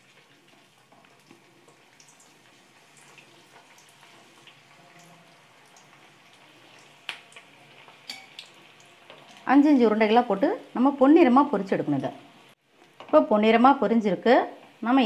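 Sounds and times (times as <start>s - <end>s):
hot oil bubbling and sizzling: 0.0s - 15.0s.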